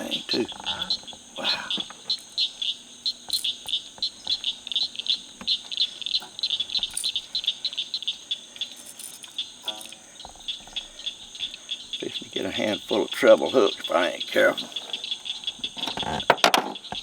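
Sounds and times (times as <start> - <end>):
chorus of high chirping calls: 0.0 - 17.0.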